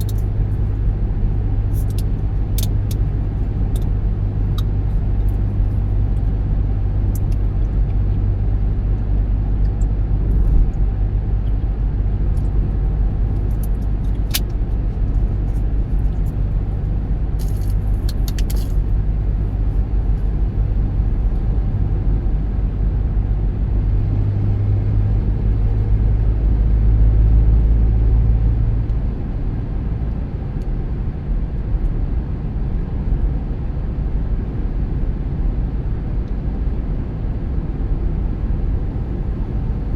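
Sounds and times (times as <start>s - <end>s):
car driving road rumble: 0.0s - 39.9s.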